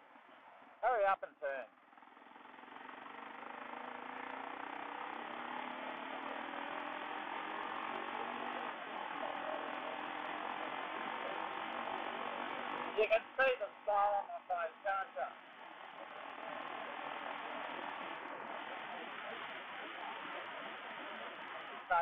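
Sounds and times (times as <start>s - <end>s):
motorcycle engine pulling away: 1.7s - 13.0s, 15.3s - 21.9s.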